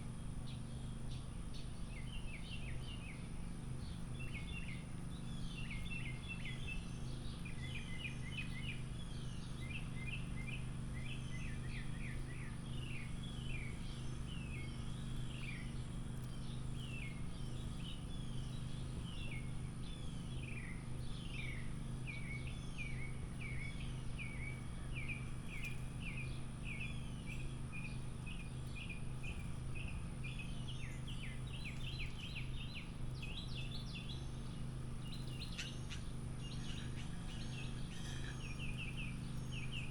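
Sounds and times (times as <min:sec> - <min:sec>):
small songbirds chirping: 0:00.0 - 0:39.9
steady low hum: 0:00.0 - 0:39.9.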